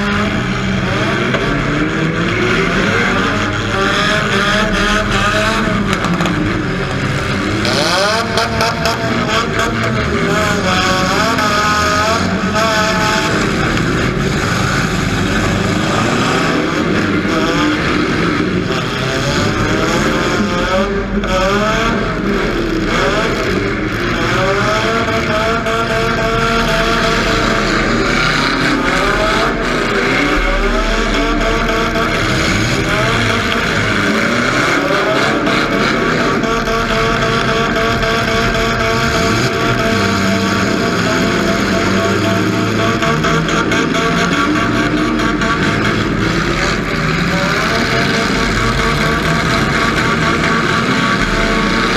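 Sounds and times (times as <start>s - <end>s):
car engines revving hard: 0.0s - 51.9s.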